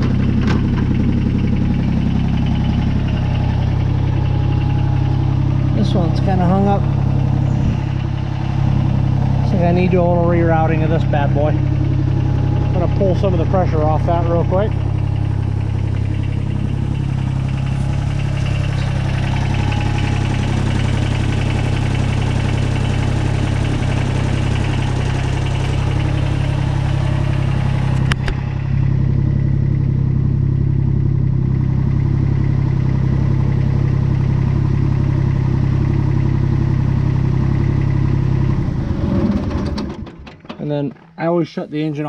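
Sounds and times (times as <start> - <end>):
diesel tractor engine idling: 0.0 - 42.0.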